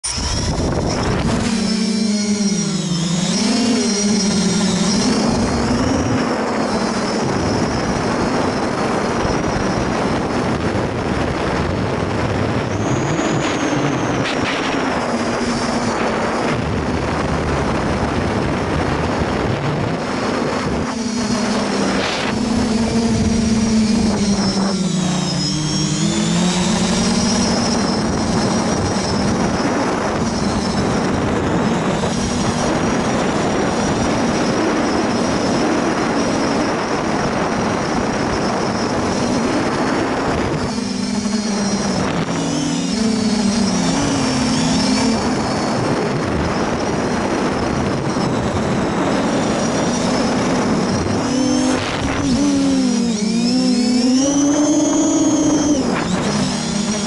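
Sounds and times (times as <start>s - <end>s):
drone motors buzzing: 0.0s - 57.0s
rushing air noise: 0.0s - 57.0s.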